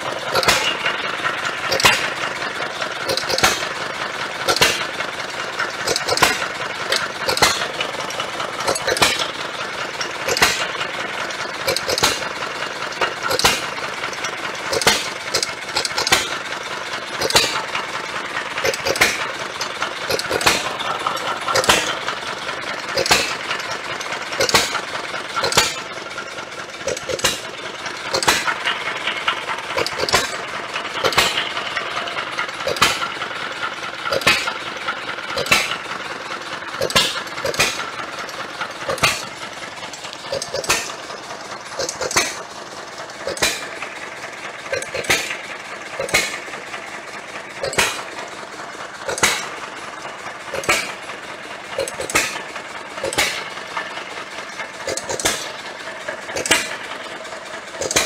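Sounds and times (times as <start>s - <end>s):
engine firing bangs: 0.0s - 36.0s, 36.8s - 57.0s, 57.7s - 58.0s
engine mechanical running noise: 0.0s - 58.0s.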